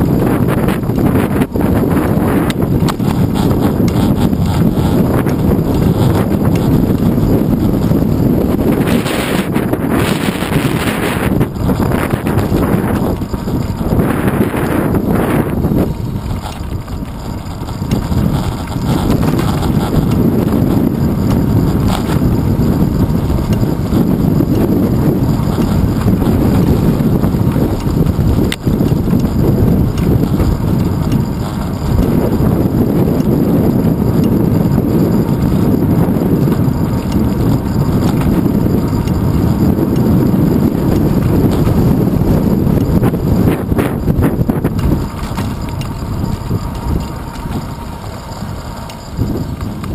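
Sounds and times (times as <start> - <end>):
road rumble: 0.0 - 49.9
wind buffeting: 0.0 - 49.9.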